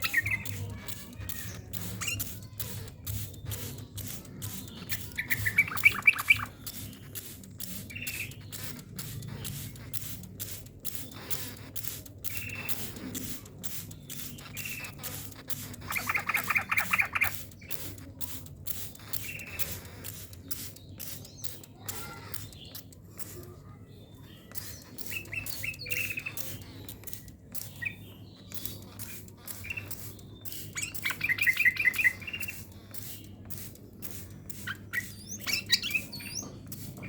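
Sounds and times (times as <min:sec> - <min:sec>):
bird chattering trills: 0:00.0 - 0:37.0
rapid clicking: 0:00.0 - 0:37.0.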